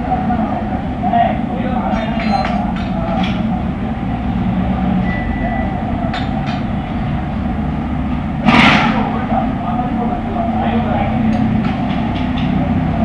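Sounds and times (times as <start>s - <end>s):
low machine rumble: 0.0s - 13.0s.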